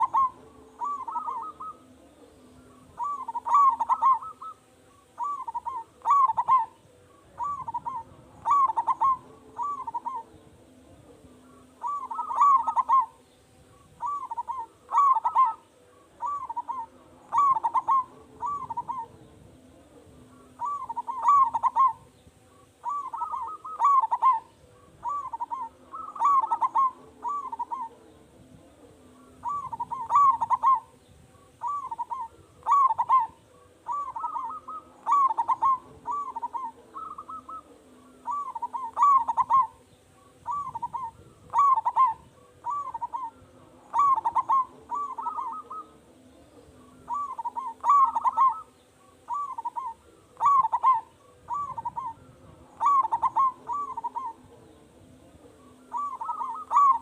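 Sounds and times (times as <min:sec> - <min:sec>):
dove cooing song: 0:00.0 - 0:57.0.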